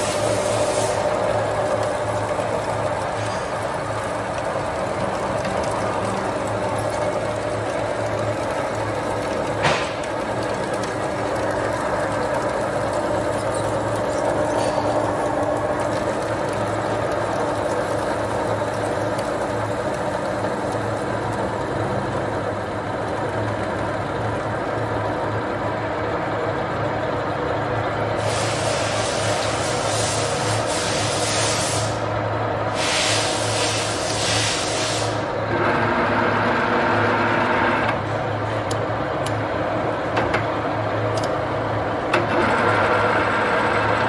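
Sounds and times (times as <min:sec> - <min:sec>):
boring mill machine hum: 0:00.0 - 0:44.0.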